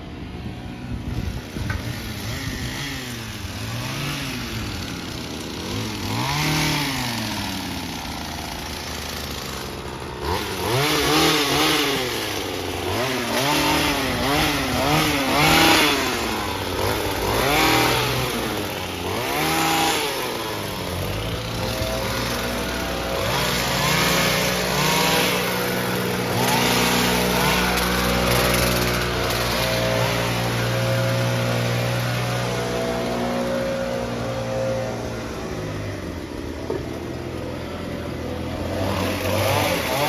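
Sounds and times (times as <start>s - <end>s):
trimmer engine revving: 0.0s - 40.0s.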